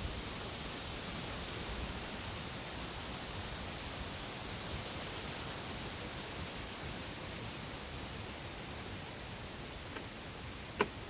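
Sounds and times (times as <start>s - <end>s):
faint fire crackle: 0.0s - 11.0s
fire hissing: 0.0s - 11.0s.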